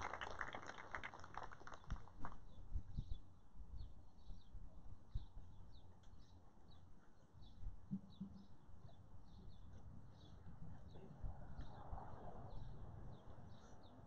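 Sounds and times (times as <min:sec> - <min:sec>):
small birds chirping: 0:01.7 - 0:14.0.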